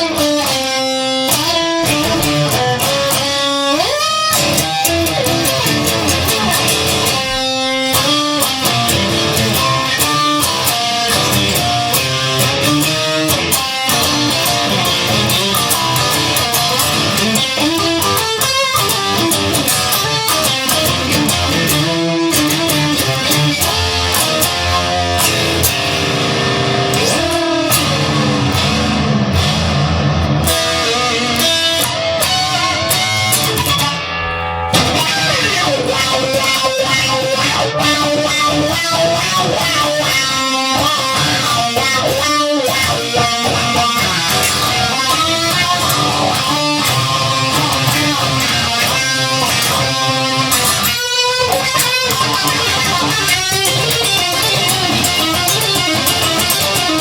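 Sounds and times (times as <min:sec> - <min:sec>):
bass guitar: 0:00.0 - 0:57.0
electric guitar rock music: 0:00.0 - 0:57.0.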